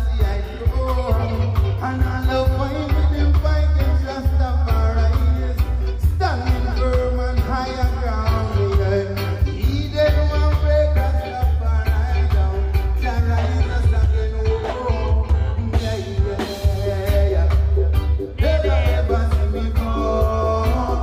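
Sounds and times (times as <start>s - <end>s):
upbeat caribbean music with singing: 0.0s - 21.0s.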